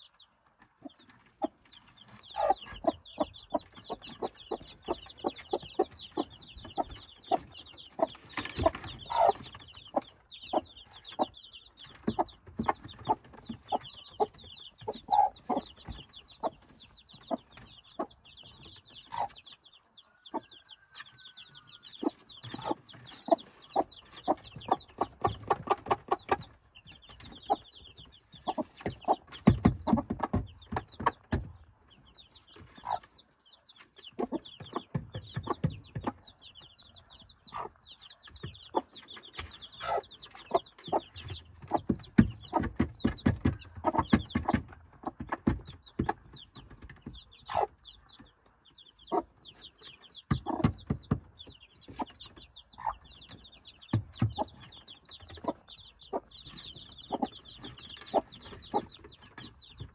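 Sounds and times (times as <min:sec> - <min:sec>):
chicks peeping: 0:00.0 - 0:59.9
hen clucking: 0:00.0 - 0:59.9.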